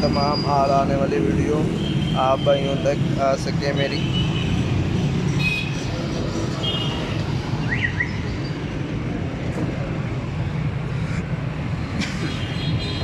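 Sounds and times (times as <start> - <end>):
traffic engines humming: 0.0 - 13.0.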